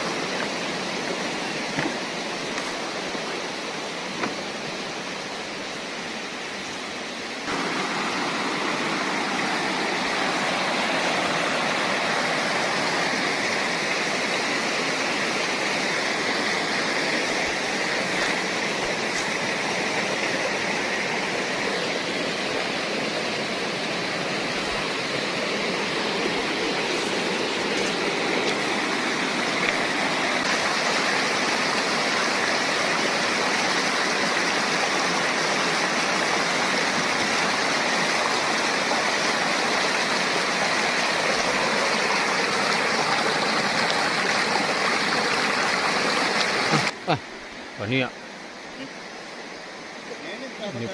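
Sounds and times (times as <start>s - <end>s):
river rushing over boulders: 0.0s - 50.9s.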